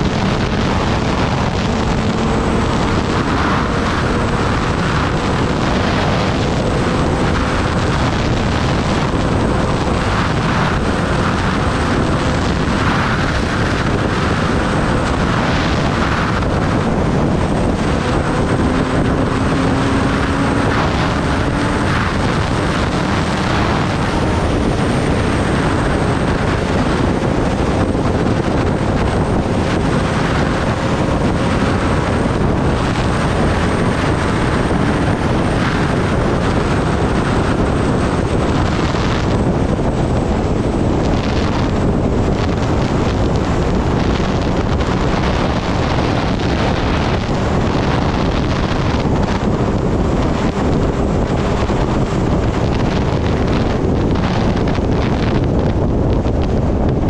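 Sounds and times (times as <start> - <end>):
motorcycle engine droning: 0.0 - 57.0
wind rushing over microphone: 0.0 - 57.0.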